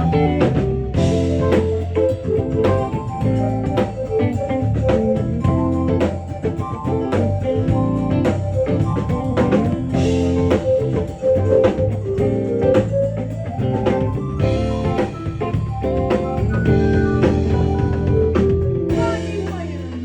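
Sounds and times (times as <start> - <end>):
drum kit beat: 0.0 - 20.0
guitar: 0.0 - 20.0.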